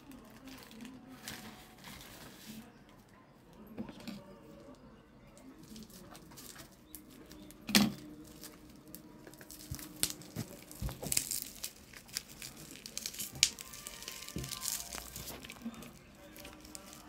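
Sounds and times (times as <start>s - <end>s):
packing tape and plastic crinkling: 0.0s - 2.7s, 5.4s - 17.0s.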